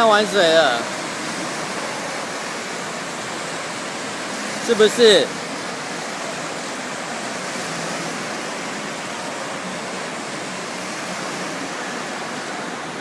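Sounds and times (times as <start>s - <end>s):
rushing water waves: 0.0s - 13.0s.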